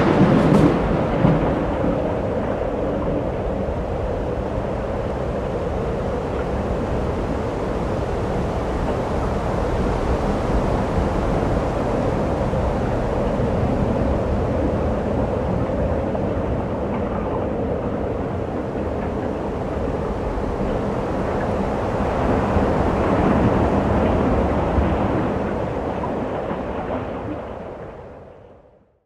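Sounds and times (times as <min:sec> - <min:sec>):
thunder-like rumble: 0:00.0 - 0:28.4.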